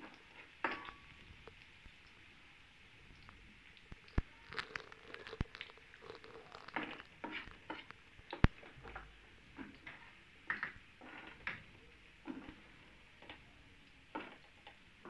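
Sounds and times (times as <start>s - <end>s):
garlic frying in hot oil: 0.0s - 15.0s.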